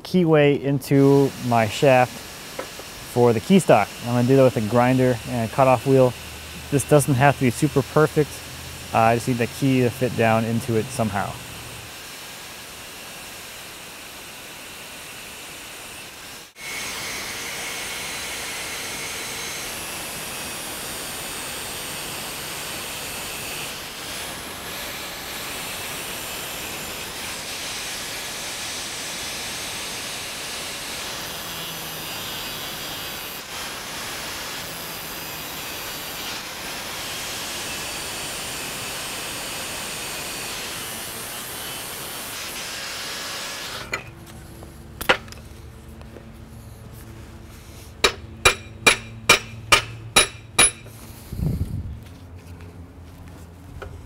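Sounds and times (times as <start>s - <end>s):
angle grinder cutting steel: 0.0s - 44.4s, 47.7s - 51.0s.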